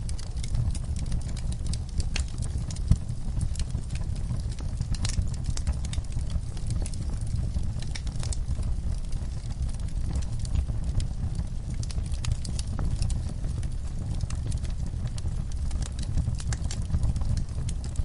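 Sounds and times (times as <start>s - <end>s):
campfire flames rumbling: 0.0s - 18.0s
wood crackling and popping: 0.0s - 18.0s.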